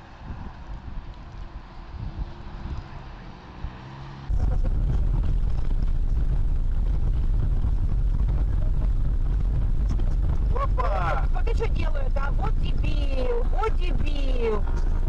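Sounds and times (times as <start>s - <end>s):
car engine hum: 0.0s - 15.0s
road and wind rumble: 0.0s - 15.0s.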